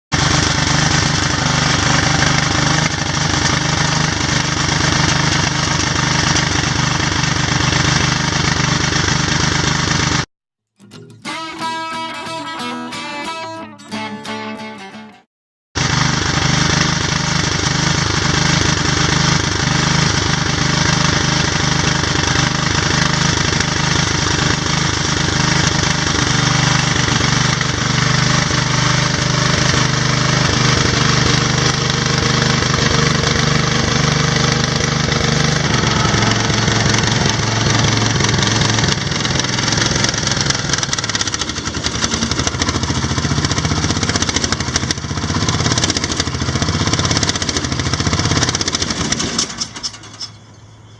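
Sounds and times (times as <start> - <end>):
tractor engine running: 0.0 - 10.3, 15.8 - 50.9.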